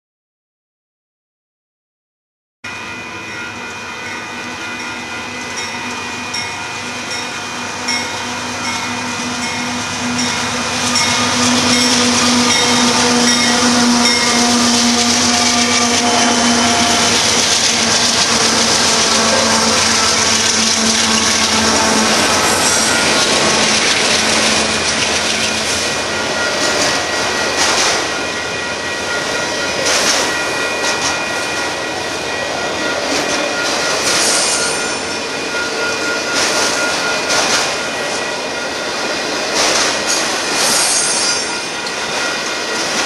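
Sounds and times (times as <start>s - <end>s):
crossing bell ringing: 2.6s - 43.0s
diesel locomotive engine droning: 2.7s - 43.0s
freight cars rolling: 7.7s - 43.0s.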